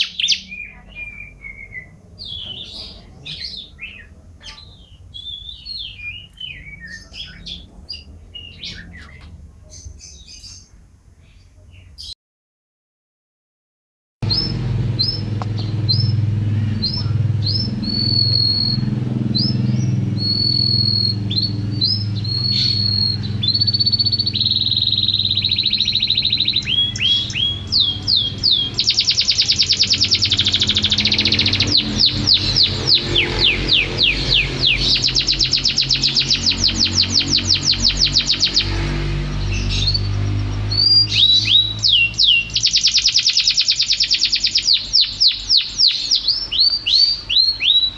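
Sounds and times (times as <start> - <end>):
canary singing: 0.0 - 12.2, 14.2 - 47.9.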